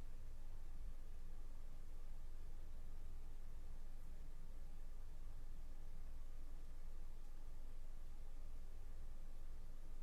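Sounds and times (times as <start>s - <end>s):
low room hum and hiss: 0.0s - 10.0s.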